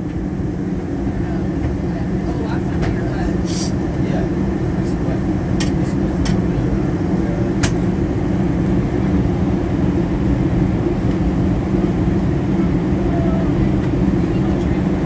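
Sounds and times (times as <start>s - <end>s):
airplane cabin airflow and engine hum: 0.0s - 15.0s.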